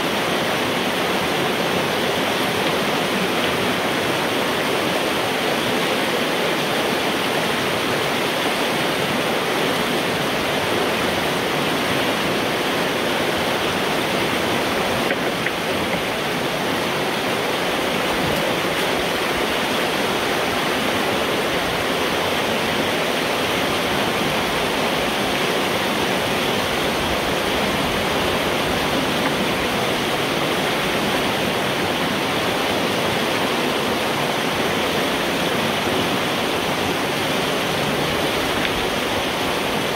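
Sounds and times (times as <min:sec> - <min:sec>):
water rushing through pipe: 0:00.0 - 0:39.9.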